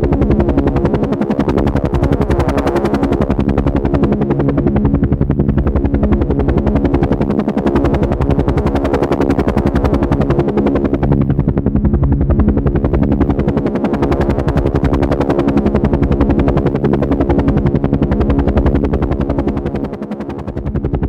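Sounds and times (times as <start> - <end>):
helicopter engine hum: 0.0 - 21.0
helicopter rotor chop: 0.0 - 21.0.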